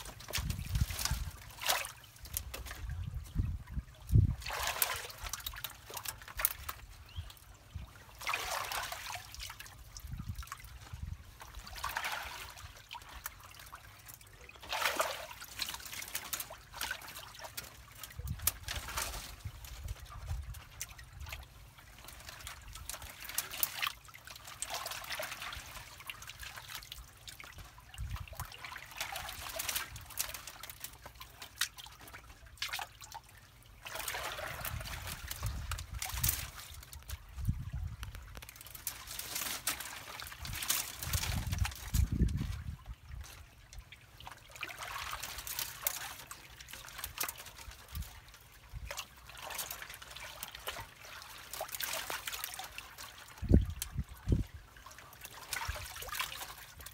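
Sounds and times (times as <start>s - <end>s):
water trickling and gurgling: 0.0s - 56.9s.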